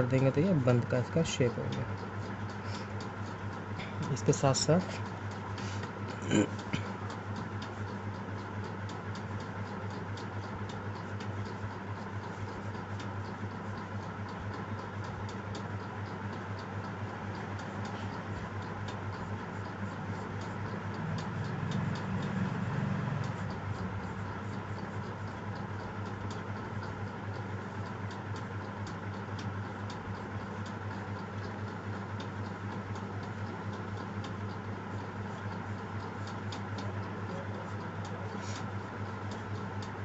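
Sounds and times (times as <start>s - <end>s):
faint regular ticking: 0.0s - 40.0s
low electrical hum: 0.0s - 40.0s.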